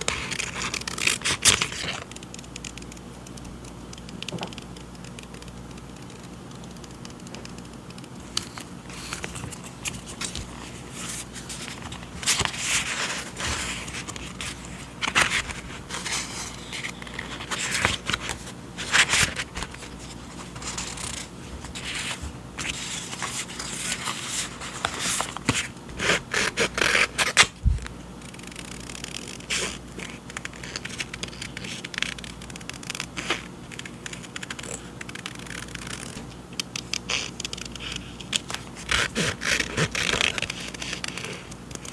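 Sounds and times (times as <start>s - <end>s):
paper rustling and crinkling: 0.0s - 2.1s, 8.2s - 41.9s.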